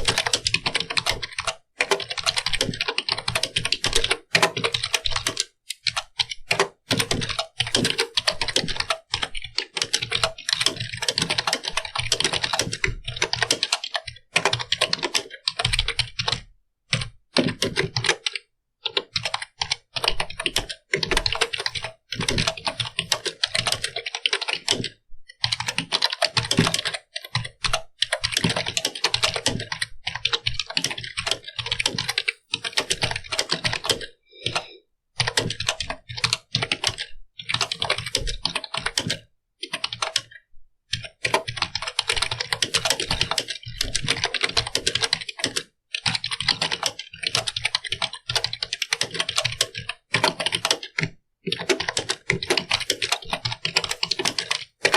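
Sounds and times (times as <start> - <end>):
rapid keyboard typing: 0.0 - 54.9.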